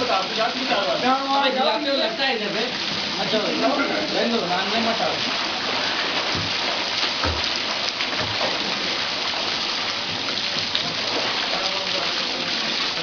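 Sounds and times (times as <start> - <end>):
swimmers splashing water: 0.0 - 13.0.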